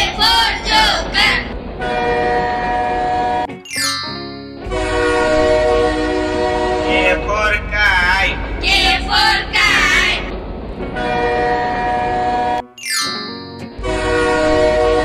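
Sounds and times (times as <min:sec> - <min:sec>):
cartoon train horn: 0:00.0 - 0:03.6, 0:04.6 - 0:10.3, 0:11.0 - 0:12.8, 0:13.8 - 0:15.0.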